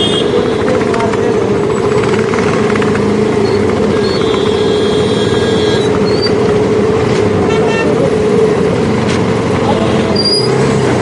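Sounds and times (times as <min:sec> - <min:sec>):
motorcycle engine running: 0:00.0 - 0:10.2
rush of road noise: 0:00.0 - 0:11.0.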